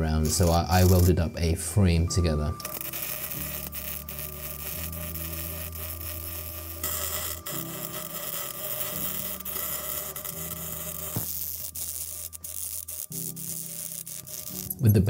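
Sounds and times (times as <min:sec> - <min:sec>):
welding arc hiss and crackle: 0:00.0 - 0:01.2, 0:02.6 - 0:15.0.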